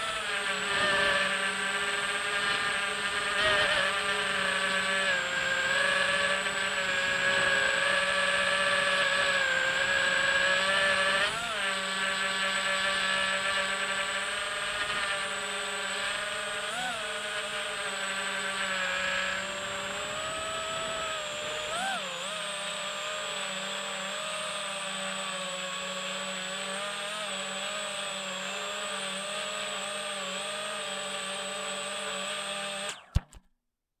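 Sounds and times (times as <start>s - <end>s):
drone motors whining: 0.0s - 33.4s.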